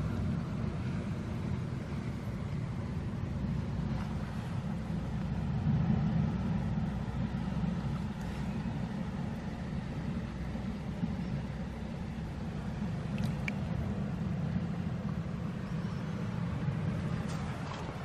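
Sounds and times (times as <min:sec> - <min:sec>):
water rushing around rocks: 0:00.0 - 0:18.0.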